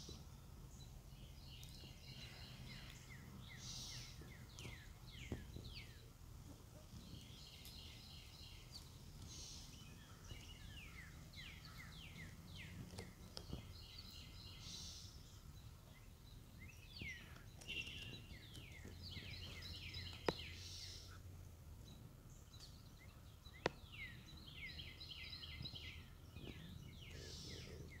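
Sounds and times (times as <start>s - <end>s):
faint birdsong: 0.0s - 28.0s.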